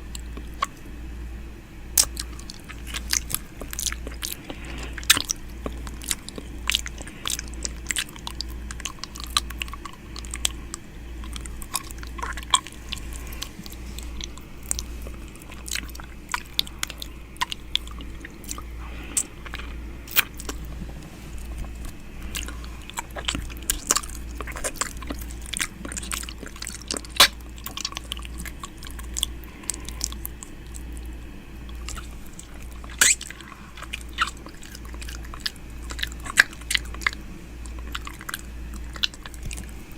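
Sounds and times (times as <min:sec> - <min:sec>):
wet mouth sounds: 0:00.0 - 0:00.9, 0:01.9 - 0:39.9
steady low hum: 0:00.0 - 0:39.9.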